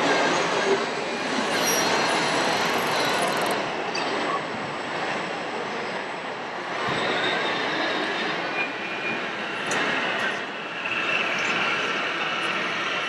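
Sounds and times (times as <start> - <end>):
busy indoor hall din: 0.0 - 13.0.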